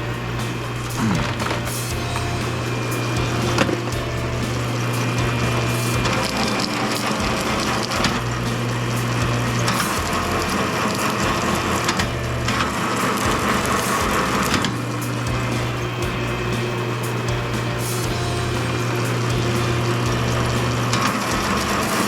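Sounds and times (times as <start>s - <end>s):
machine humming under load: 0.0s - 22.0s.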